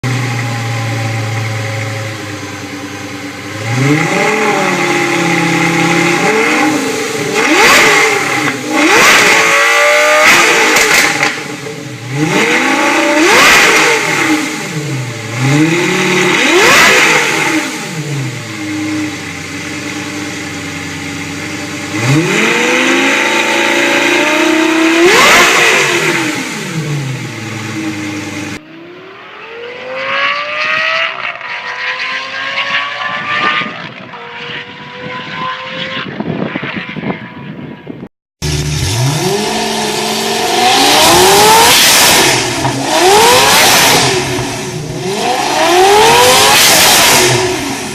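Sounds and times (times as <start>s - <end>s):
sports car engine revving: 0.0s - 37.2s, 38.4s - 47.9s
car accelerating: 0.0s - 37.5s, 38.4s - 47.9s.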